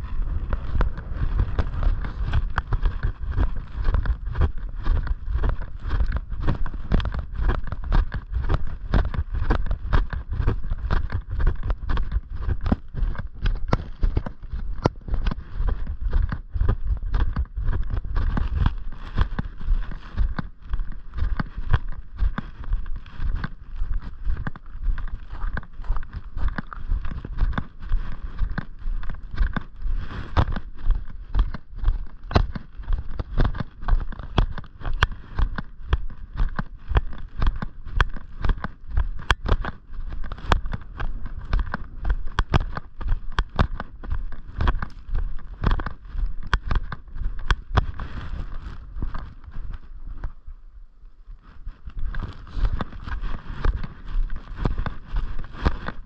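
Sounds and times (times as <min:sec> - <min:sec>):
footsteps walking: 0:00.0 - 0:50.6, 0:51.3 - 0:56.0
wind rumbling on microphone: 0:00.0 - 0:56.0.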